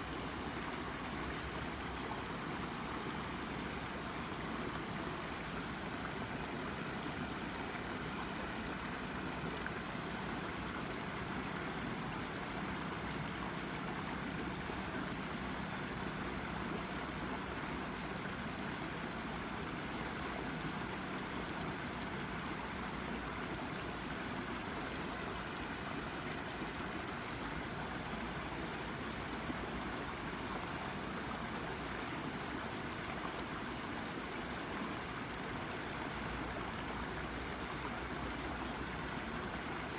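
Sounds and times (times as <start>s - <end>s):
brook babbling over rock: 0.0s - 39.9s.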